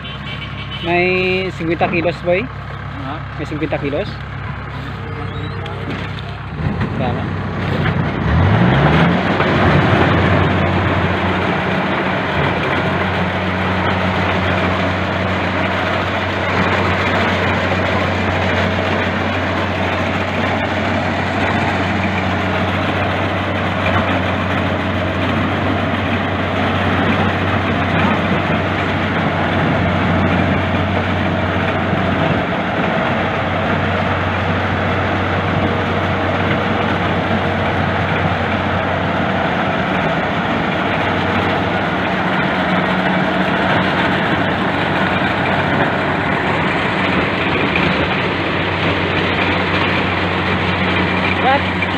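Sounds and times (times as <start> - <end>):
combine harvester engine humming: 0.0 - 51.9.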